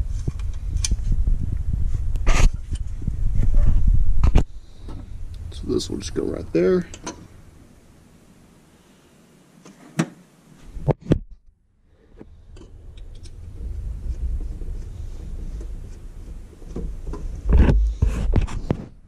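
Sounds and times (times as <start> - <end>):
low rumble: 0.0 - 8.7, 10.7 - 18.7.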